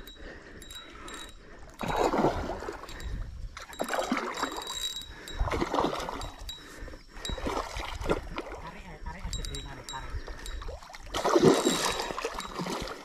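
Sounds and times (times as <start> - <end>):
water splashing: 1.6 - 13.0.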